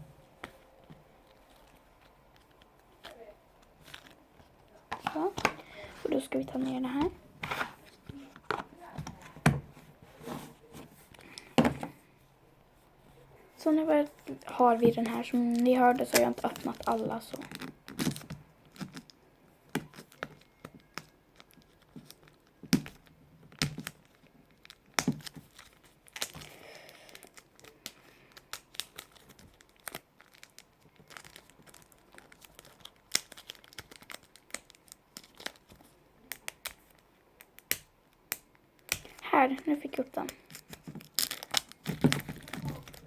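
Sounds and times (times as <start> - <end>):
plastic packaging crinkling and tearing: 0.9 - 7.0, 13.9 - 43.0.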